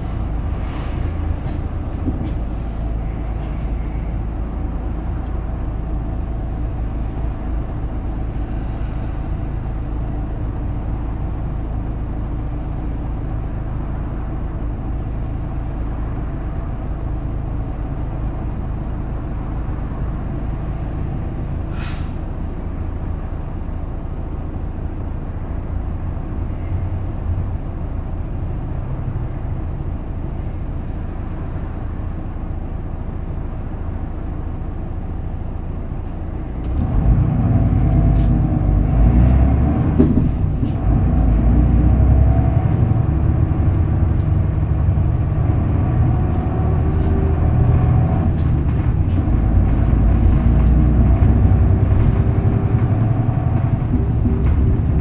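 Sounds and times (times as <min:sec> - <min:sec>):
bus diesel engine drone: 0:00.0 - 0:55.0
road noise: 0:00.0 - 0:55.0.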